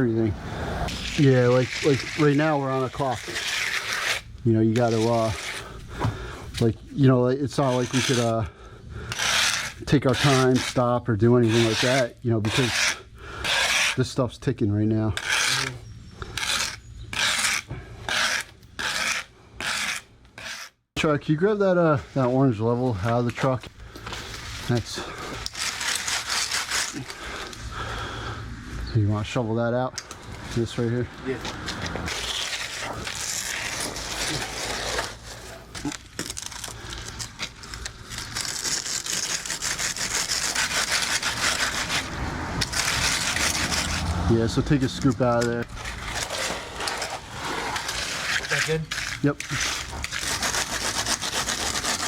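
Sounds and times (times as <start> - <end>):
hand tool scraping wet concrete: 0.8 - 20.8, 21.8 - 27.6, 30.0 - 52.0.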